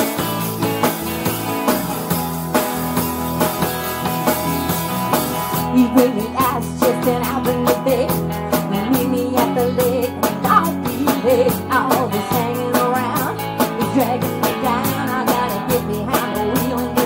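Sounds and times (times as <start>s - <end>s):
drum kit beat: 0.0s - 17.0s
guitars strumming: 0.0s - 17.0s.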